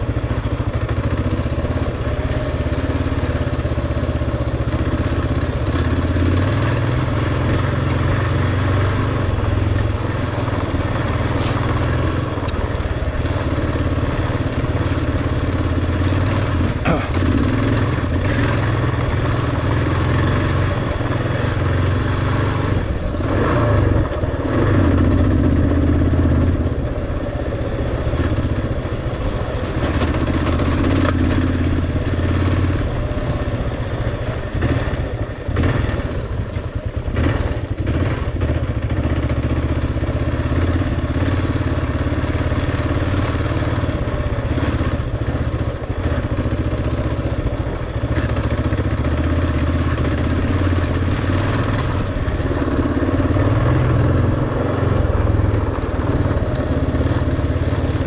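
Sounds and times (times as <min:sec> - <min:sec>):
motorcycle engine under load: 0:00.0 - 0:58.0.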